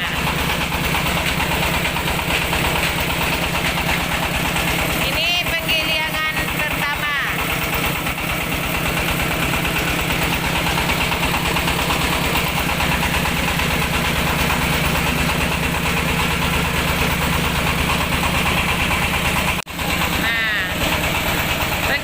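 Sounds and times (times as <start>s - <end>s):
machine engine running: 0.0s - 22.0s.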